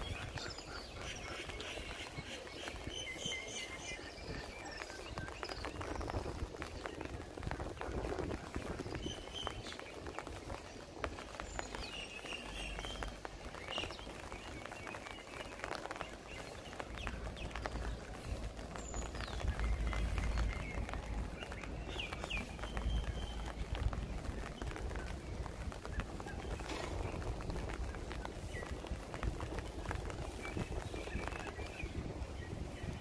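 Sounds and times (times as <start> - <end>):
birds chirping: 0.0 - 33.0
footsteps on wet asphalt: 0.0 - 33.0.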